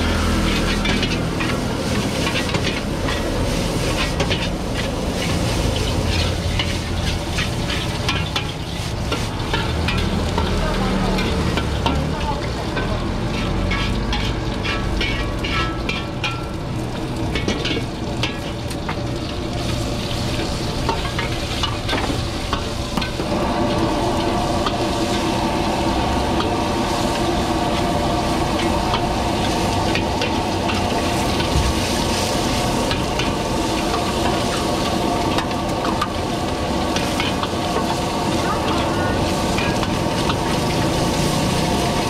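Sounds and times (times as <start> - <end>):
metal ladle scraping wok: 0.0 - 18.6, 19.6 - 42.0
food sizzling in a wok: 0.0 - 42.0.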